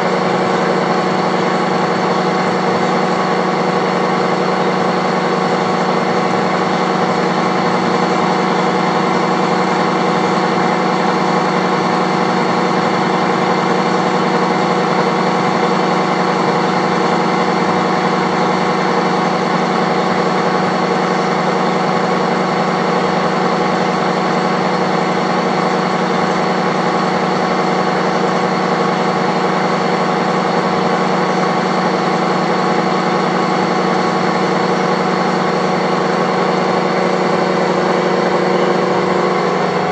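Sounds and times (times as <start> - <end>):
boring mill humming: 0.0 - 39.9.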